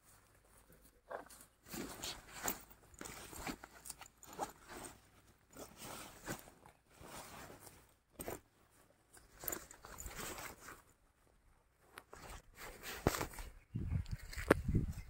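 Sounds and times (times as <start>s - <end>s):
rustling in grass and leaves: 0.0s - 15.0s.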